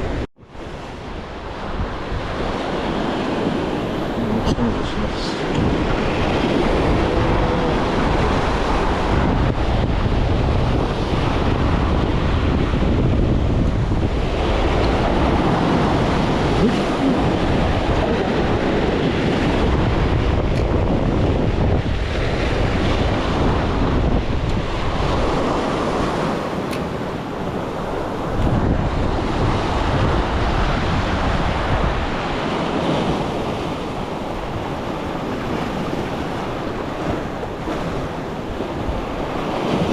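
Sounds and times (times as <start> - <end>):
sea waves: 0.0 - 39.9
wind buffeting microphone: 0.0 - 39.9.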